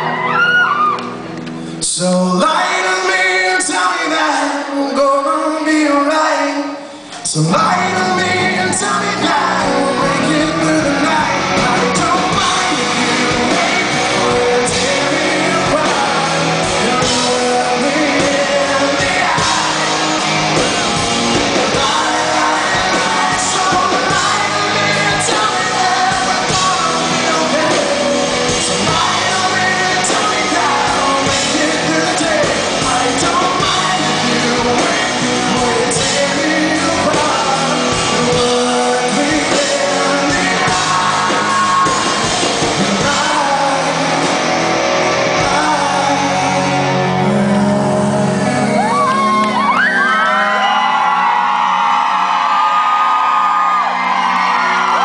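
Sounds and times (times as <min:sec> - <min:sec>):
live rock band with singer: 0:00.0 - 0:55.0.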